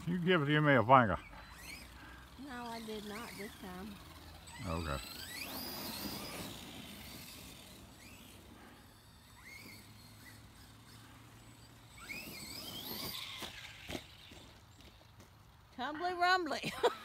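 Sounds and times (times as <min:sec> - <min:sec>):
toy truck electric motors whining: 0:00.0 - 0:17.0.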